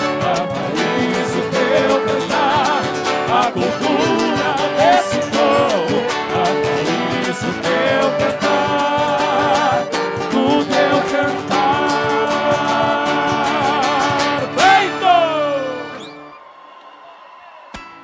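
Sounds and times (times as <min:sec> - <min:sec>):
folk band with singers: 0:00.0 - 0:16.4.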